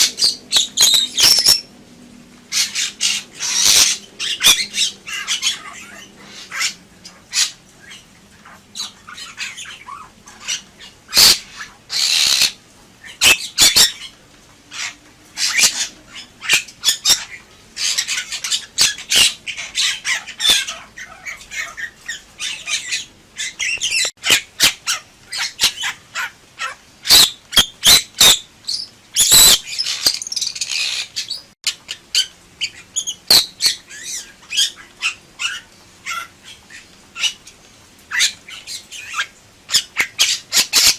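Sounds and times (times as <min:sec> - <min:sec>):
bird squawking and chattering: 0:00.0 - 0:01.7, 0:02.5 - 0:37.5, 0:38.1 - 0:40.9.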